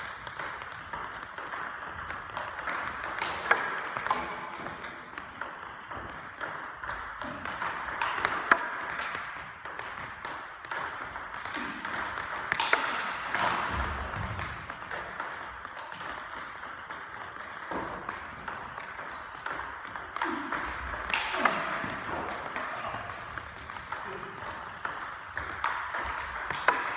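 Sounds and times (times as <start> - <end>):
table tennis balls clicking: 0.0 - 26.9.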